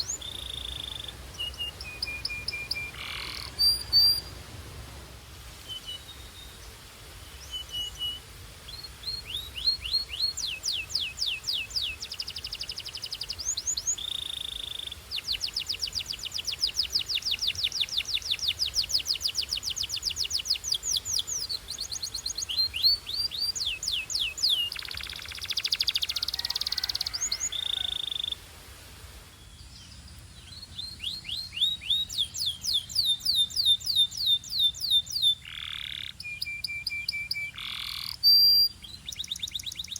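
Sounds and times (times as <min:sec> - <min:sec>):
canary singing in rolling trills: 0:00.0 - 0:04.4, 0:07.4 - 0:28.4, 0:29.6 - 0:39.9.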